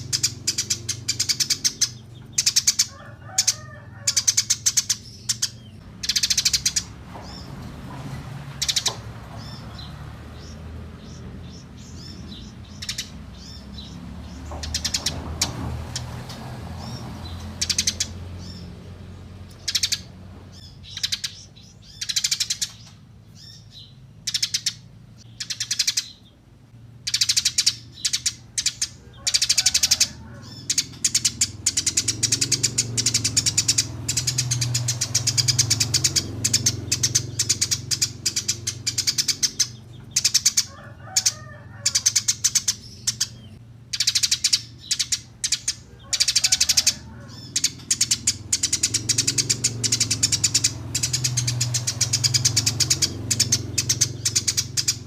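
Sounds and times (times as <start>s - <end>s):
songbirds trilling: 0.0s - 55.0s.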